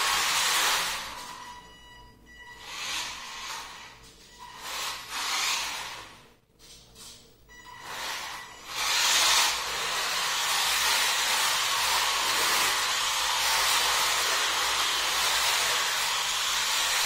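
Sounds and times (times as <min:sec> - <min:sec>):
toy car tyres sliding on tile: 0:00.0 - 0:01.3, 0:02.6 - 0:06.2, 0:07.8 - 0:17.0.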